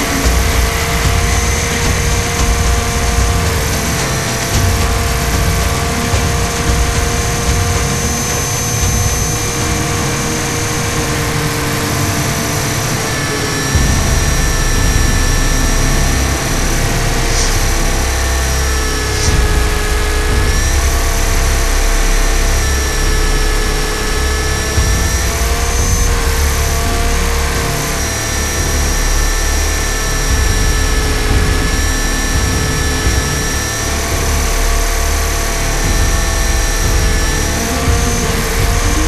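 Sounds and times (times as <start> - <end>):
helicopter motor and gear whine: 0.0 - 39.0.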